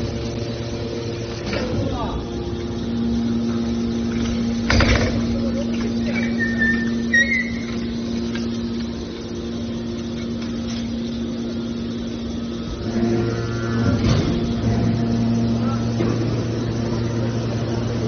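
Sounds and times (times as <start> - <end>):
deeper machine hum: 0.0 - 18.0
hydraulic power unit humming: 0.0 - 18.0.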